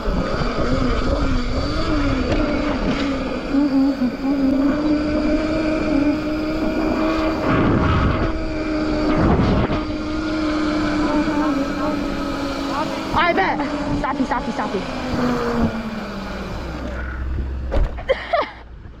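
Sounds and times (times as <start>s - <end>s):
wind noise on microphone: 0.0s - 16.7s
loud rumble: 0.0s - 18.1s
electric bike motor whining: 0.0s - 18.2s.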